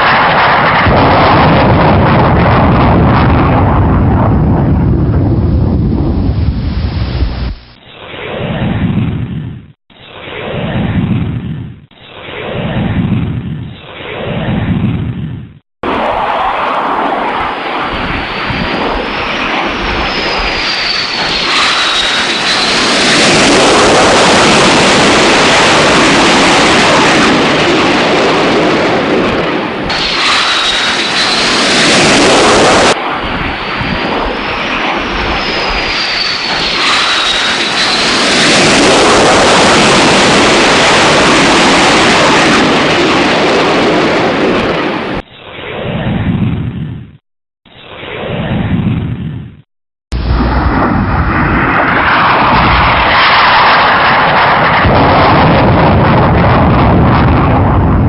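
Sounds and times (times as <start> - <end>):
jet engine noise with whine: 0.0 - 58.0.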